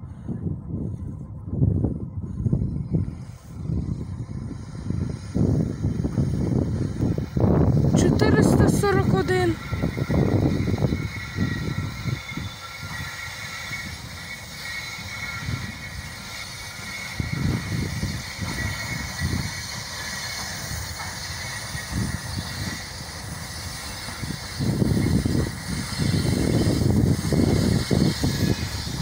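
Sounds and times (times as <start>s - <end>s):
freight train rolling on rails: 0.0s - 29.0s.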